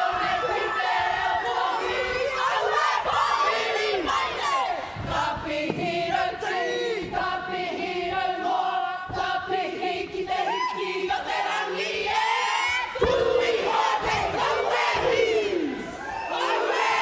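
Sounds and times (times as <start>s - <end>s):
group singing and chanting: 0.0s - 17.0s.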